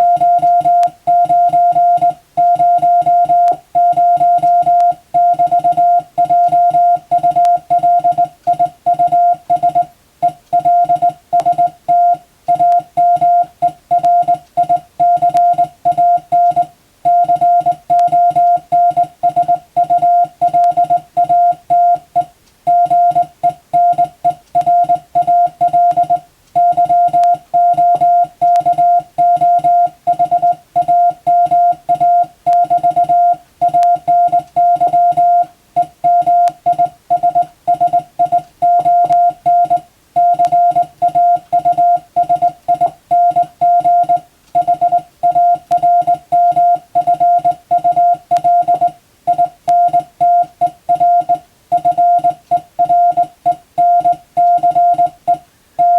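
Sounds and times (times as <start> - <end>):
morse code beeps: 0.0 - 55.9.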